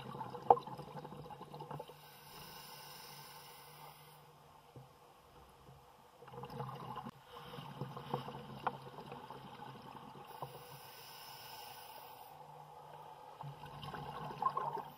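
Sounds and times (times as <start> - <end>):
underwater bubbling and gurgling: 0.0 - 3.1, 4.7 - 14.9
low steady hum: 0.0 - 14.9.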